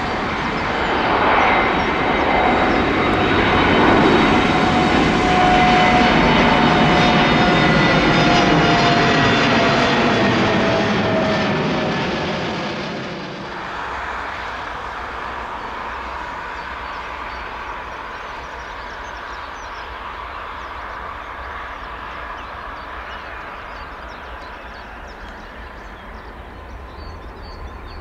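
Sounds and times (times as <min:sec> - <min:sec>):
jet airliner climbing away: 0:00.0 - 0:27.9
jet engines at takeoff thrust: 0:00.0 - 0:28.0.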